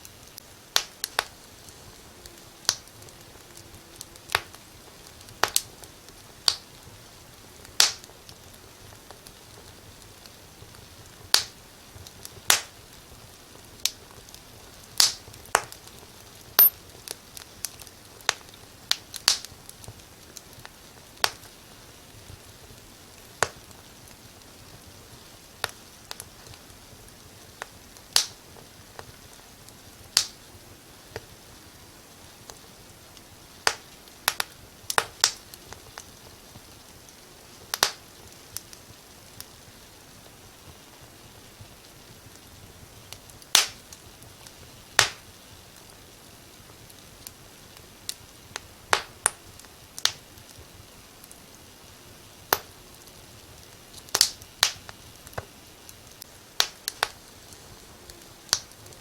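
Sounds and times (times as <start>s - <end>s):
low hiss: 0.0s - 59.0s
wood fire crackling: 0.0s - 59.0s.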